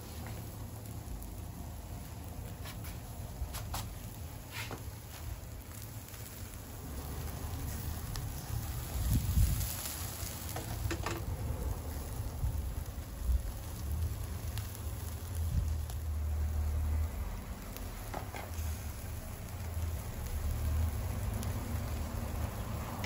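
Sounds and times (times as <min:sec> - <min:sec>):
chicken sizzling over charcoal: 0:00.0 - 0:23.0.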